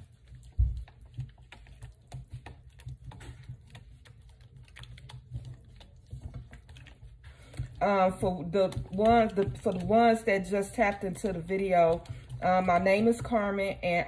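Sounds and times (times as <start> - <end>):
utensil scraping a metal bowl: 0.0 - 14.0.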